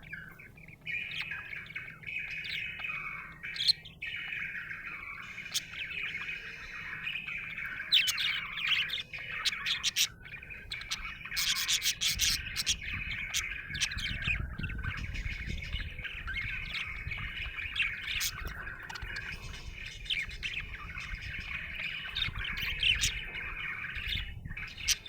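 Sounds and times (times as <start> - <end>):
budgerigar chattering and warbling: 0.0 - 25.0.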